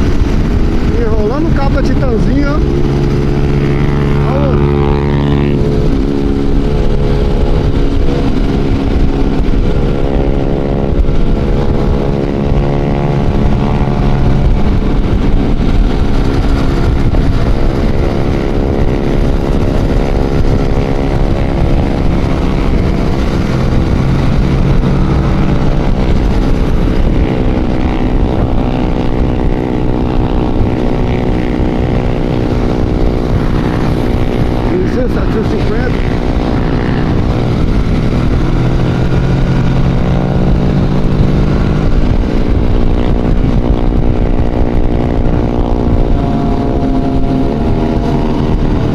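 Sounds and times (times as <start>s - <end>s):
motorcycle engine running: 0.0s - 48.9s
wind and road rumble: 0.0s - 48.9s.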